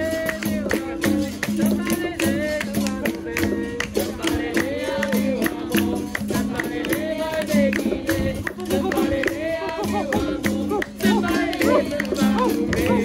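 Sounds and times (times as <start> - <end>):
person singing: 0.0 - 13.0
tambourine jingles: 0.0 - 13.0.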